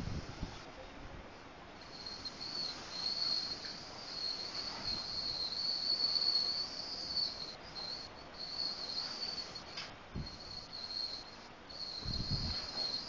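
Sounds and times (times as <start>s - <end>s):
faint hiss: 0.0s - 13.0s
insects trilling: 1.7s - 13.0s.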